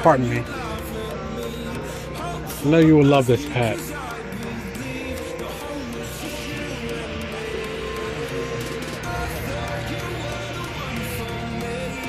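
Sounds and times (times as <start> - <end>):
background guitar music: 0.0 - 12.0.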